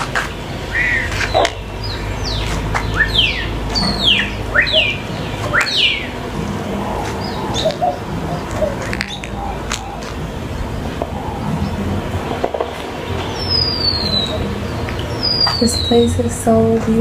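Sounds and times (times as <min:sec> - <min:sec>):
birds whistling: 0:00.0 - 0:16.6
low rumble: 0:00.0 - 0:17.0.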